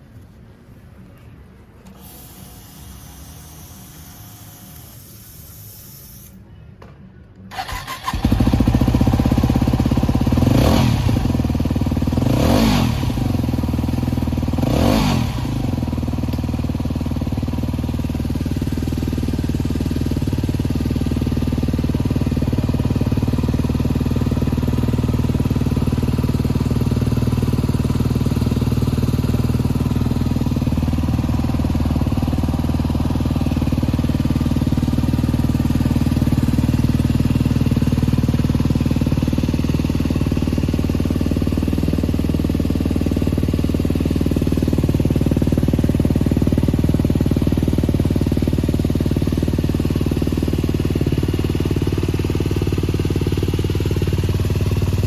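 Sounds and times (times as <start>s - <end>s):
motorcycle engine revving and idling: 7.5s - 55.0s.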